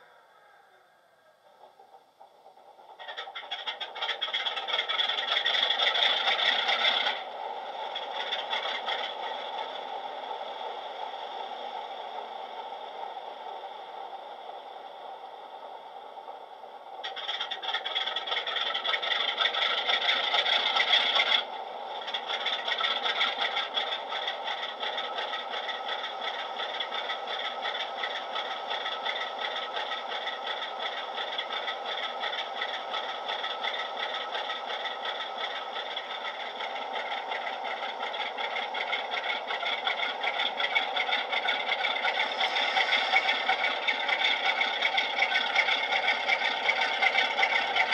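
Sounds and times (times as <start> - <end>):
diesel engine through small speaker: 0.0 - 47.9.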